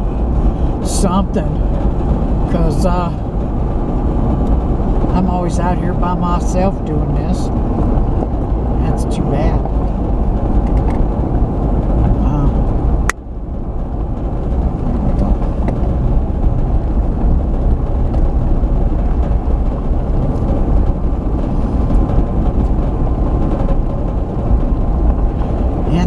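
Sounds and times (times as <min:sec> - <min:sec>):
vehicle engine and tyre noise: 0:00.0 - 0:26.0.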